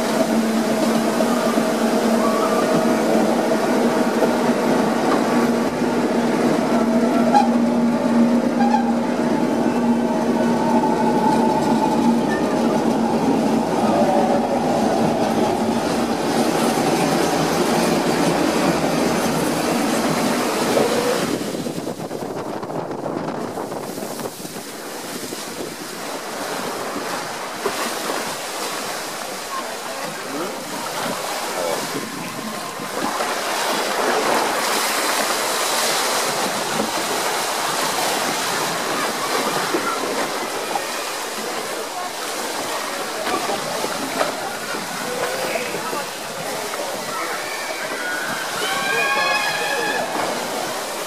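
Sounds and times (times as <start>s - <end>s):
rushing wind and water: 0.0s - 51.0s.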